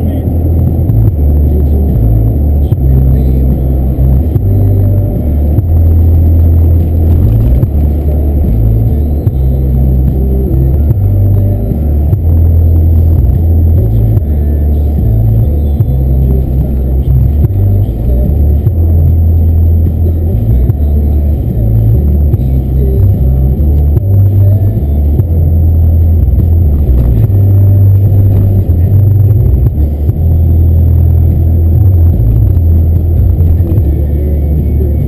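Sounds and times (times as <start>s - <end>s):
muffled car engine rumble: 0.0s - 35.0s
road noise: 0.0s - 35.0s.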